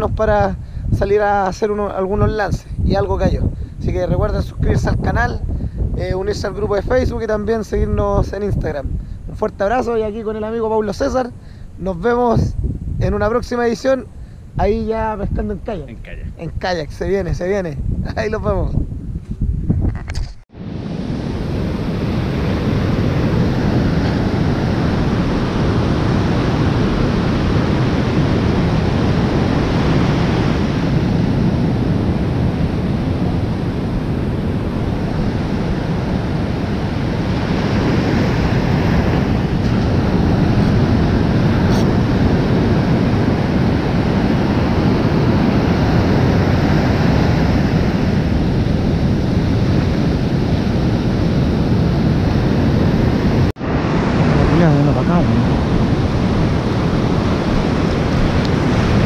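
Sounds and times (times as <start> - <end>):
ocean surf washing on beach: 0.0 - 18.7, 20.5 - 59.0
wind on microphone: 0.0 - 59.0.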